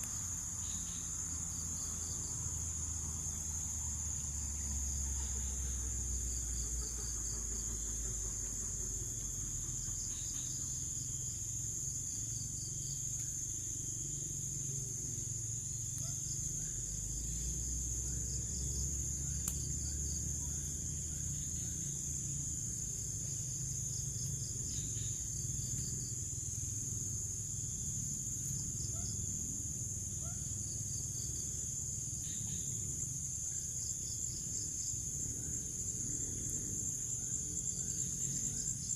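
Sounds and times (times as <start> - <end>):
insect chirps: 0.0 - 38.9
insects droning: 0.0 - 38.9.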